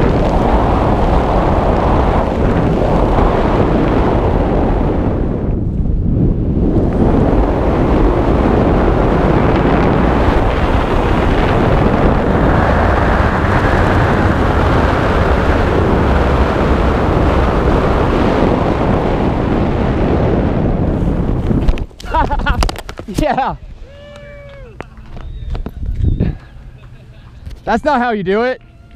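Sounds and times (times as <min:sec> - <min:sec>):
wind rumbling over microphone: 0:00.0 - 0:28.4.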